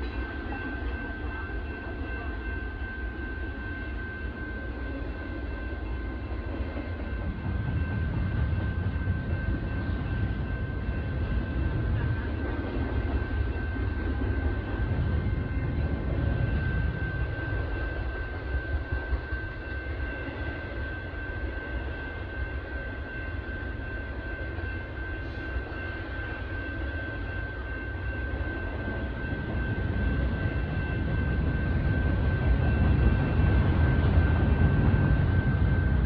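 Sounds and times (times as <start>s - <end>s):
freight train rumbling: 0.0s - 36.0s
steady high whine: 0.0s - 36.0s.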